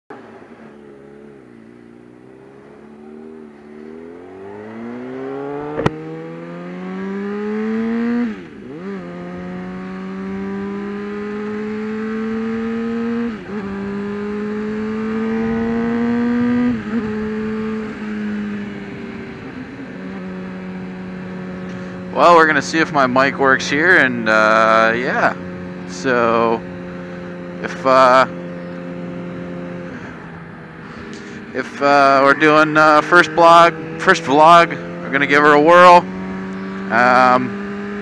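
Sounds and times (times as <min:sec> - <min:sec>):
motorcycle engine accelerating: 0:00.1 - 0:38.0.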